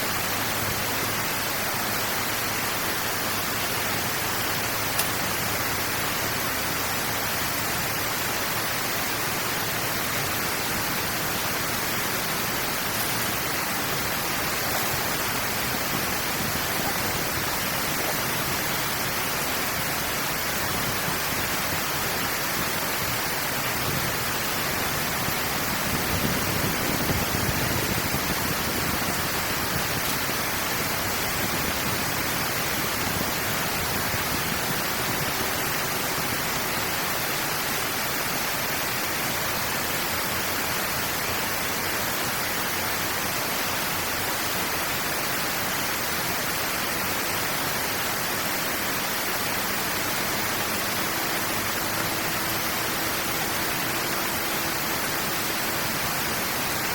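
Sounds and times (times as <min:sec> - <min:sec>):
water rushing through dam outlet: 0:00.0 - 0:56.9.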